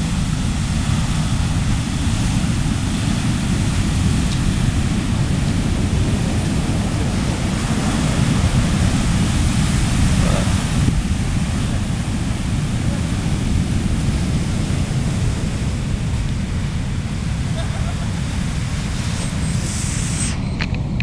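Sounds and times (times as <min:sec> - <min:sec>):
heavy waves crashing: 0:00.0 - 0:21.0
wind buffeting microphone: 0:00.0 - 0:21.0.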